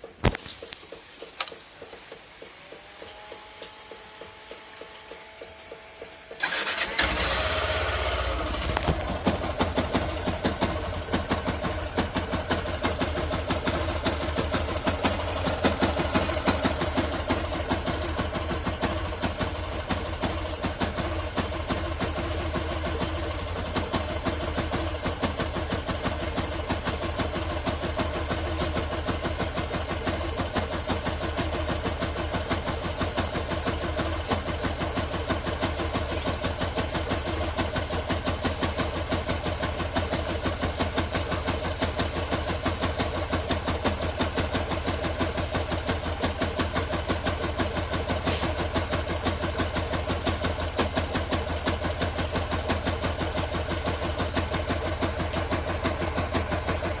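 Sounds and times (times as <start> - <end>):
engine idling with pulsing beat: 0.0 - 6.6, 7.6 - 57.0.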